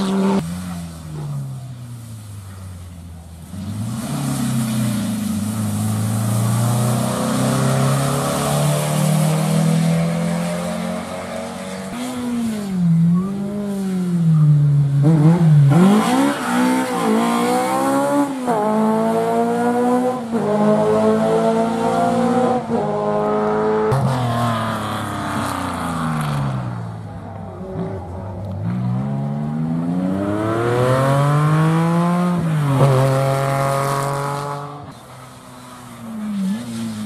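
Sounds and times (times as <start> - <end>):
rally car engine revving: 0.0 - 1.4, 3.4 - 35.1.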